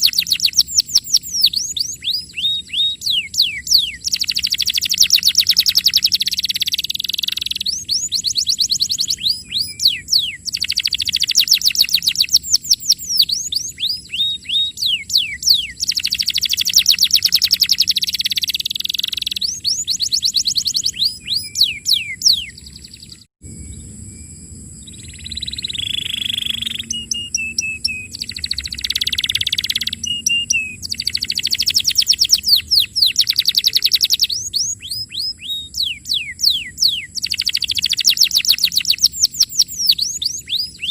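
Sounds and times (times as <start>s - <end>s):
canary singing trills: 0.0s - 24.2s, 24.8s - 40.9s.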